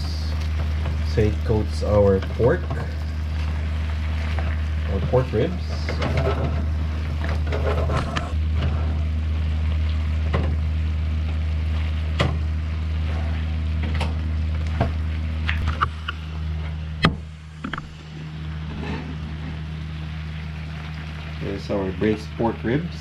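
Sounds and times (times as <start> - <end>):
stovetop low hum: 0.0 - 23.0.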